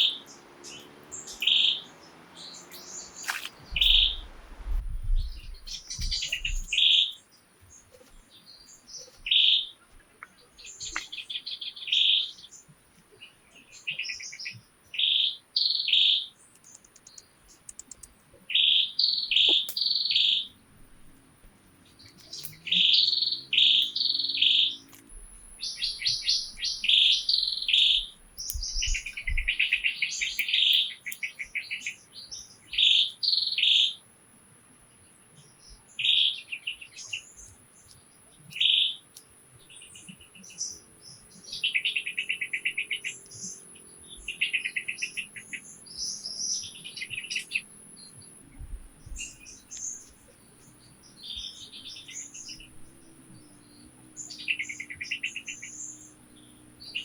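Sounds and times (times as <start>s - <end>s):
bird chirping: 0.0s - 34.0s, 34.8s - 57.0s.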